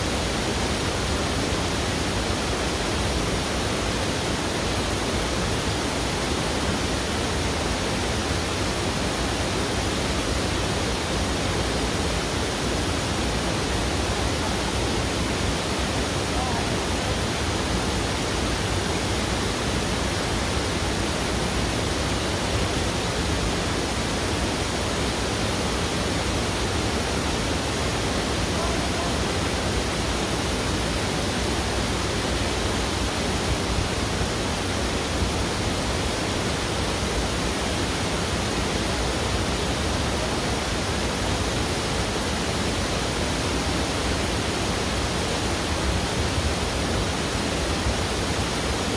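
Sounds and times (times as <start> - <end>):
river current rushing: 0.0 - 48.9.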